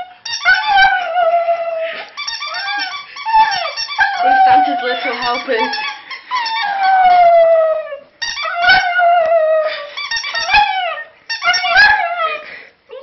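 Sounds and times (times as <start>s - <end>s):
dog howling: 0.0s - 12.4s.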